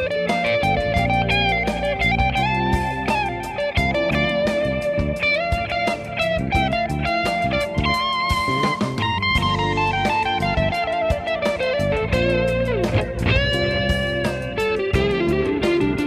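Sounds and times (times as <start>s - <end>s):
backing track with beat and bass: 0.0s - 16.0s
electric guitar lead line: 0.0s - 16.0s.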